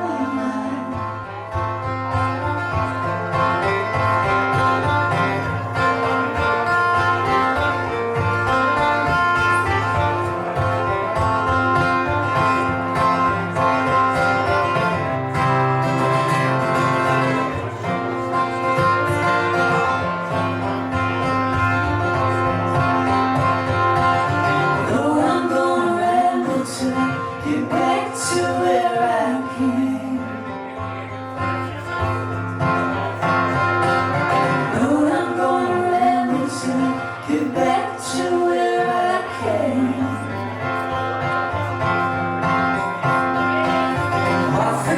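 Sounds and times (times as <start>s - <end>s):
lead guitar bending notes: 0.0s - 44.9s
live band playing country blues: 0.0s - 44.9s.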